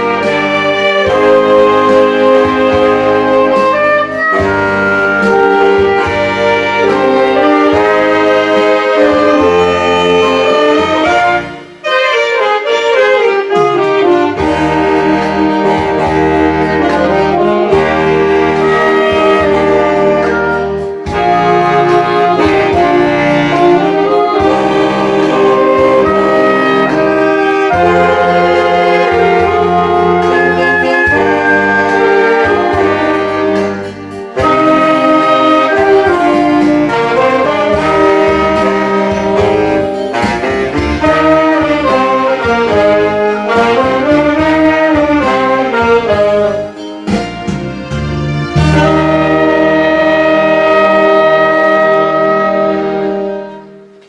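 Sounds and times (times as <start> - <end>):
backing track with bass: 0.0 - 54.0
saxophone ensemble playing: 0.0 - 54.0.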